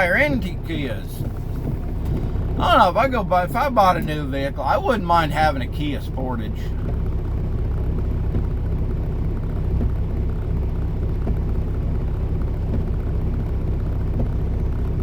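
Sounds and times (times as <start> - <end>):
road noise: 0.0 - 15.0
truck diesel engine drone: 0.0 - 15.0.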